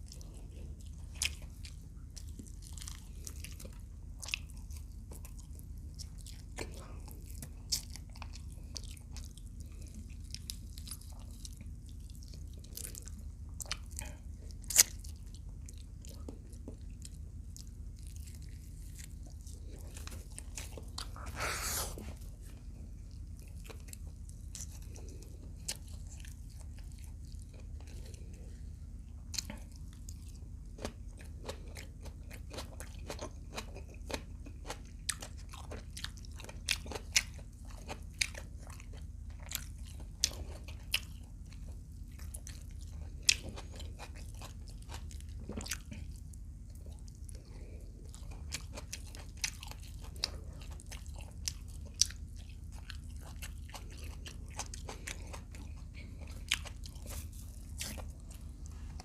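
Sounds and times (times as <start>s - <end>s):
close chewing and crunching: 0.0s - 59.0s.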